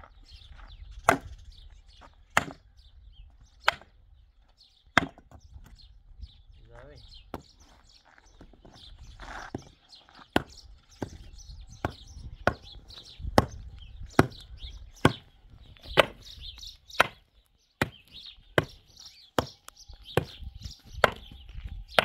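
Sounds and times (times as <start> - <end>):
tool tamping stones and earth: 0.0 - 5.8, 7.3 - 22.0.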